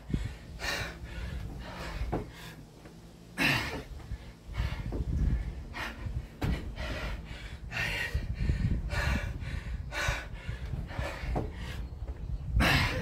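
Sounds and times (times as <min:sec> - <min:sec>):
man panting: 0:00.0 - 0:13.0.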